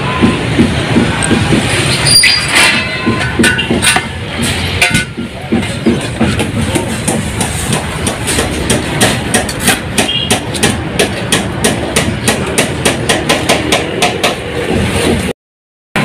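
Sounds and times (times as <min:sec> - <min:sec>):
hammer strikes: 0:00.0 - 0:15.3.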